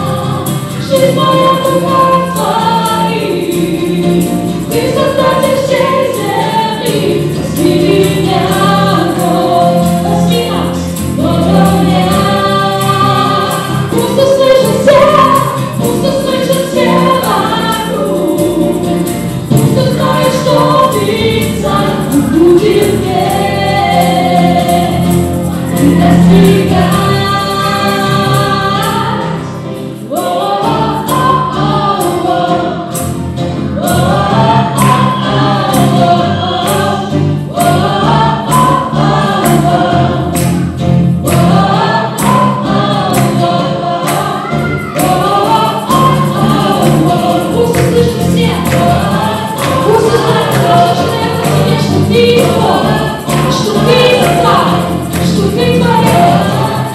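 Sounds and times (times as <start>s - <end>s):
acoustic and electric guitars: 0.0s - 56.9s
group singing a praise song: 0.0s - 56.9s
keyboard: 0.0s - 56.9s.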